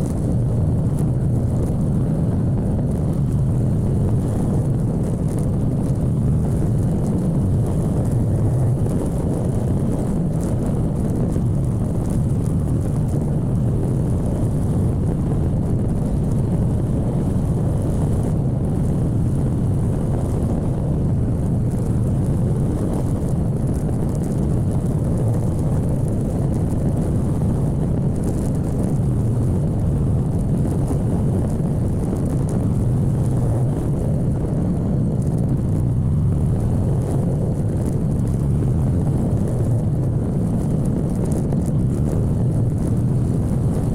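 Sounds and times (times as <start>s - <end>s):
motorcycle engine and road rumble: 0.0s - 43.9s
wind on microphone: 0.0s - 43.9s.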